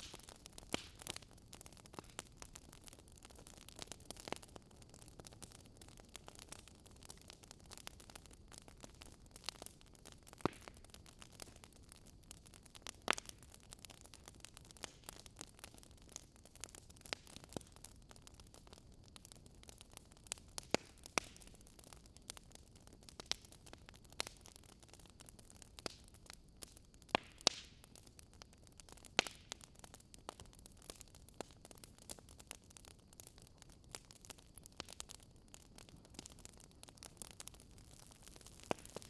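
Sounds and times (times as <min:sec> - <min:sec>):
faint steady hiss: 0:00.0 - 0:39.0
wood fire crackling: 0:00.0 - 0:39.0.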